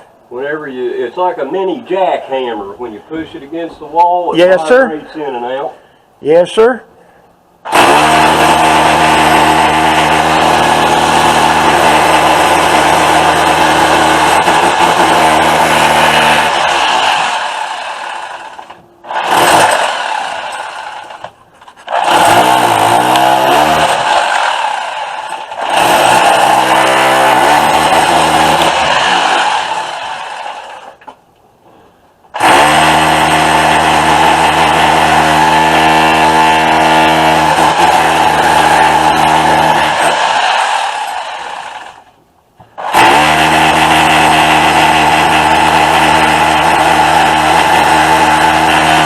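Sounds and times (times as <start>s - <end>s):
electric chipping hammer: 7.6s - 31.1s, 32.3s - 42.2s, 42.8s - 49.0s.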